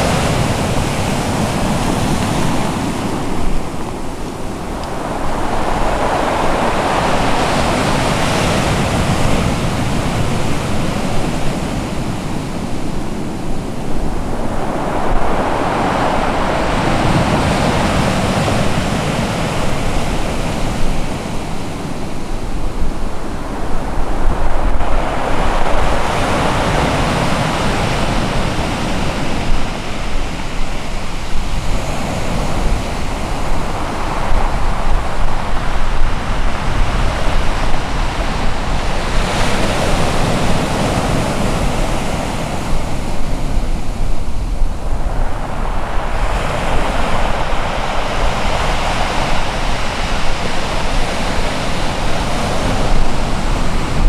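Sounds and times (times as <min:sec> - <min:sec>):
continuous water wash: 0:00.0 - 0:54.0
ocean surf breaking: 0:00.0 - 0:54.0.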